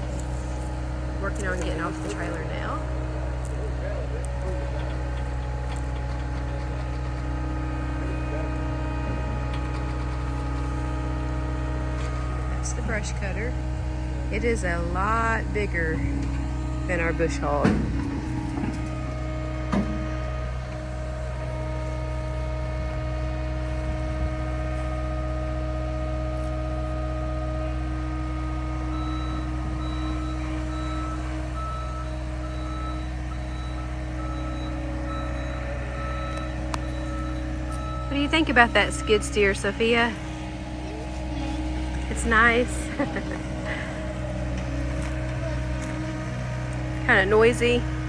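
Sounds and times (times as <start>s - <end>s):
heavy equipment engine droning: 0.0s - 48.0s
reversing alarm beeping: 0.0s - 48.0s.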